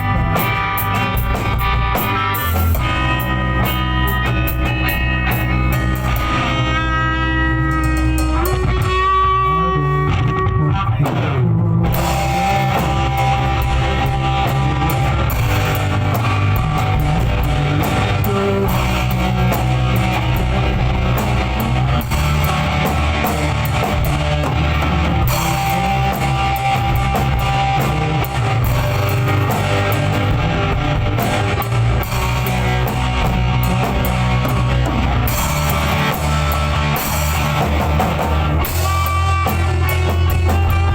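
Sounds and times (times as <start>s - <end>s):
drum kit: 0.0s - 40.9s
electric guitar: 0.0s - 40.9s.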